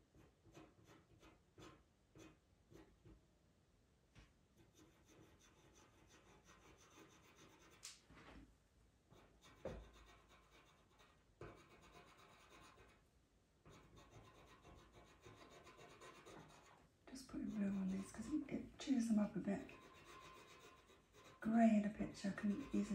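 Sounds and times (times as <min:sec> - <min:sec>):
pencil scratching on paper: 0:00.1 - 0:02.9, 0:04.6 - 0:07.8, 0:09.1 - 0:13.0, 0:13.7 - 0:22.9.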